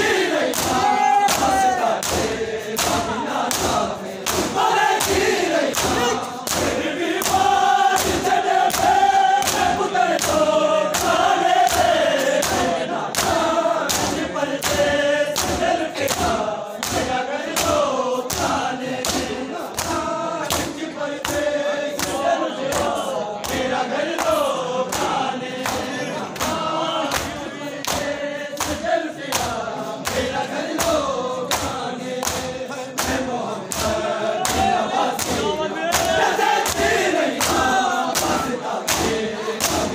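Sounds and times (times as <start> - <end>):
men chanting in unison: 0.0 - 39.9
hands slapping bare chests: 0.4 - 39.9.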